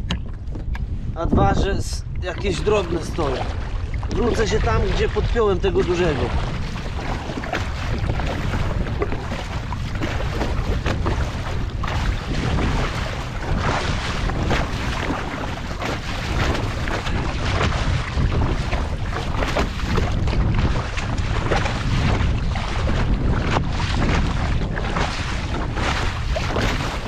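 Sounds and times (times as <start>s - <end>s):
sea water splashing: 0.0s - 27.0s
wind buffeting microphone: 0.0s - 27.0s.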